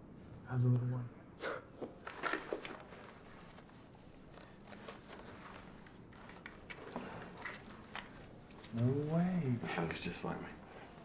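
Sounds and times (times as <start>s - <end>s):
faint low room hum: 0.0s - 11.0s
clothing rustling: 1.9s - 11.0s.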